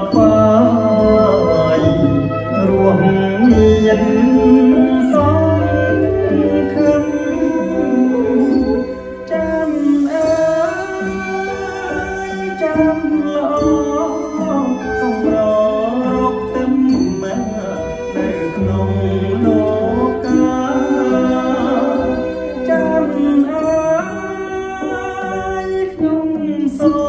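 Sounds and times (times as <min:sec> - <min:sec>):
instrumental accompaniment: 0:00.0 - 0:27.0
person singing slow melody: 0:00.0 - 0:27.0.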